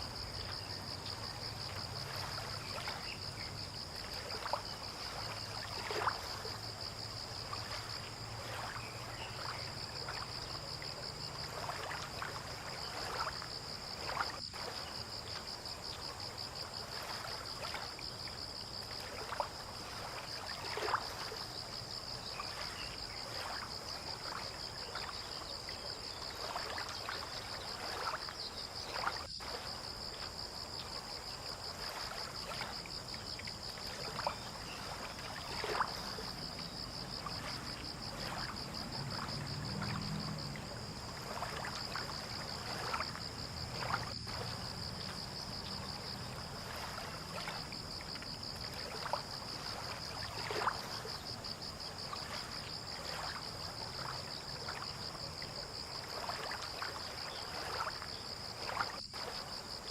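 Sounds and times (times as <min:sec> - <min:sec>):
high pulsing insect trill: 0:00.0 - 0:59.9
water lapping against boats: 0:00.0 - 0:59.9.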